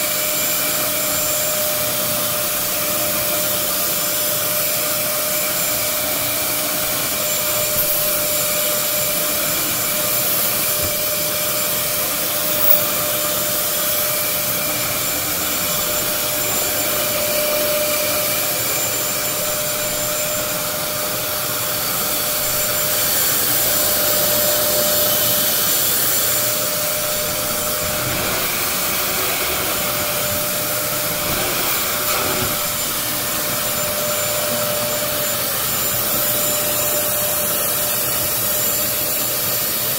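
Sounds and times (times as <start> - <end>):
vacuum cleaner motor on carpet: 0.0 - 39.9.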